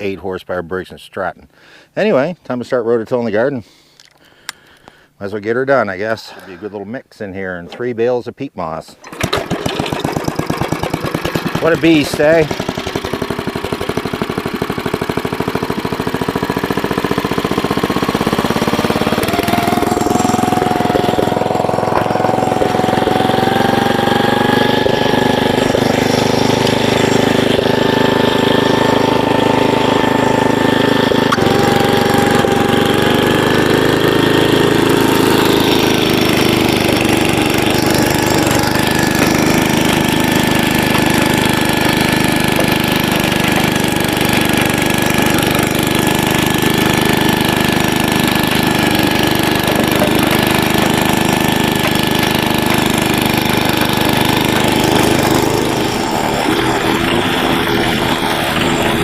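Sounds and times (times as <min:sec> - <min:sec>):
tiller engine running: 0:09.0 - 0:59.0.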